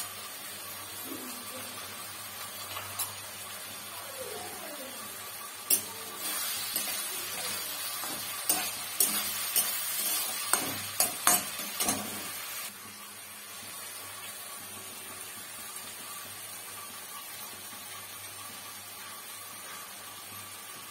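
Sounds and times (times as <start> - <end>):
hiss of frying: 0.0 - 20.9.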